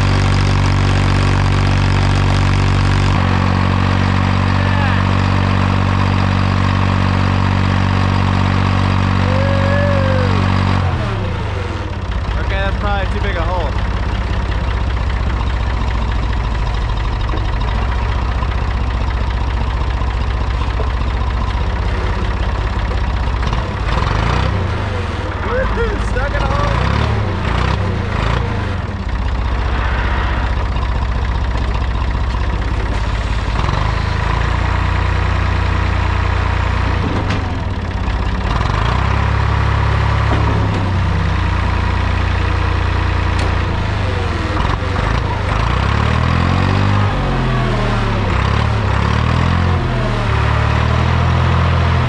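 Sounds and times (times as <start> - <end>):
tractor diesel engine revving: 0.0 - 52.0.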